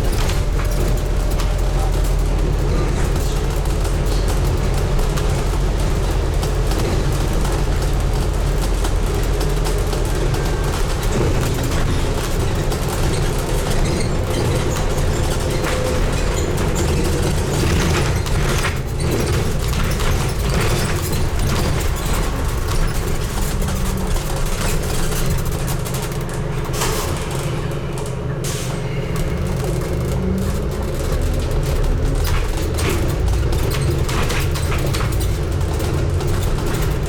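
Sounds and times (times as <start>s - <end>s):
bodywork rattling and knocking: 0.0s - 37.0s
bus diesel engine rumble: 0.0s - 37.0s.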